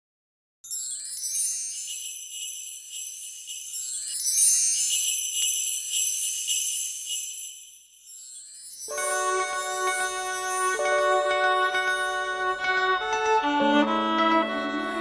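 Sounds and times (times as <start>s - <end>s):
jingling bell-like shimmer: 0.7s - 13.4s.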